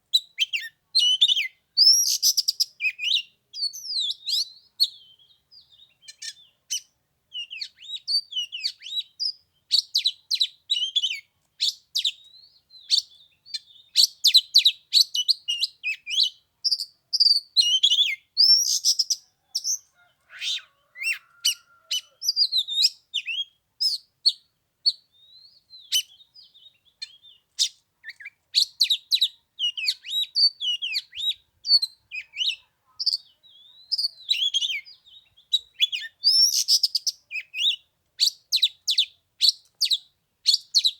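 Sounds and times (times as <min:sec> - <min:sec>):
magpie-robin singing: 0:00.1 - 0:40.9.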